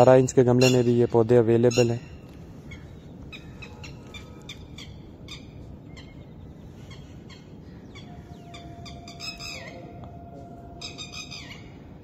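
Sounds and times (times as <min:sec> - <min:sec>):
low background rumble: 0:01.5 - 0:12.0.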